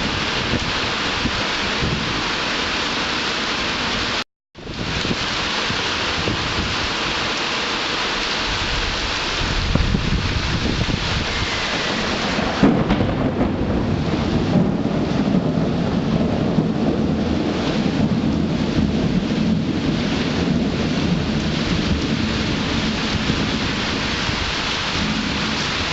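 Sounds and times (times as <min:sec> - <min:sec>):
loud thunderclap: 0:00.0 - 0:02.4, 0:04.6 - 0:06.9, 0:08.6 - 0:25.9
thunder rumbling: 0:00.0 - 0:07.2, 0:08.4 - 0:25.9
heavy rain falling: 0:00.0 - 0:25.9.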